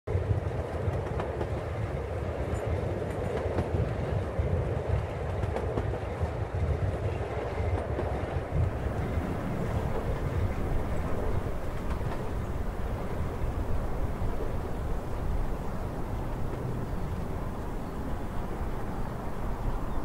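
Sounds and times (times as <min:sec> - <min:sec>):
wheels rumbling on rails: 0:00.1 - 0:20.0.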